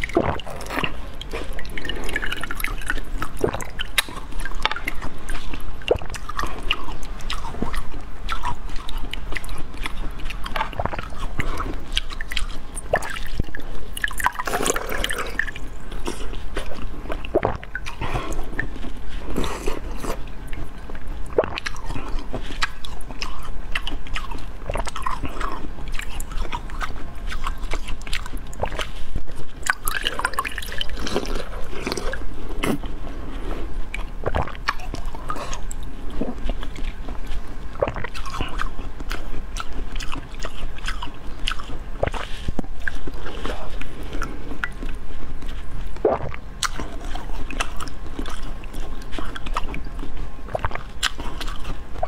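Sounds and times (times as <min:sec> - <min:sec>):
wet sticky chewing: 0:00.0 - 0:52.0.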